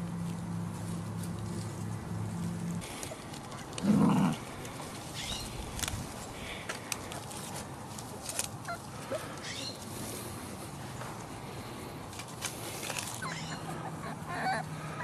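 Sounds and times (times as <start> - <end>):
small ticks and rustles: 0.1 - 13.3.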